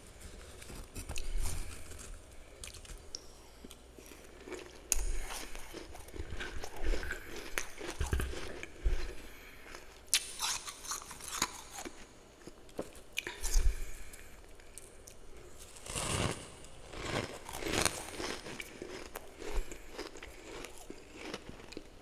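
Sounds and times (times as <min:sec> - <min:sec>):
crunching and chewing of frost: 0:00.0 - 0:22.0.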